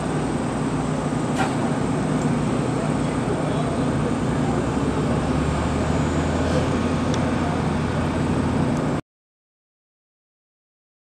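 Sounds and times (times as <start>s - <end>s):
outdoor noise: 0.0s - 9.0s
truck engine idling: 0.0s - 9.0s.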